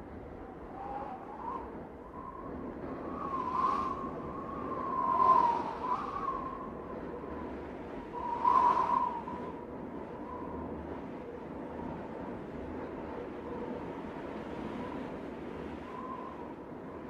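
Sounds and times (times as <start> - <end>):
howling wind: 0.0 - 17.0.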